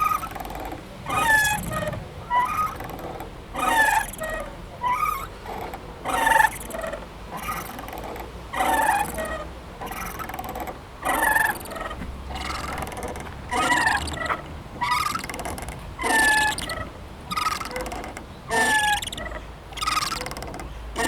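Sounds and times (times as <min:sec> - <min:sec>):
playground swing creaking: 0:00.0 - 0:21.0.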